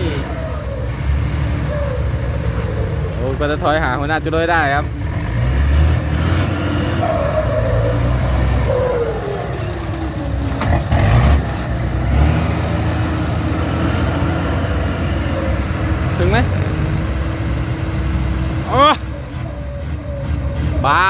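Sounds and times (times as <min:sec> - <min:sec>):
diesel truck engine running hard: 0:00.0 - 0:21.0.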